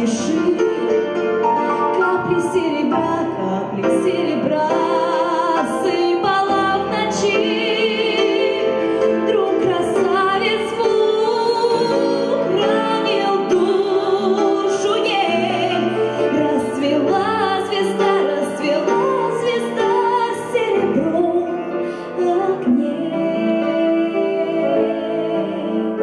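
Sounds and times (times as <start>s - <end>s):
grand piano: 0.0s - 26.0s
women singing with vibrato: 0.0s - 26.0s.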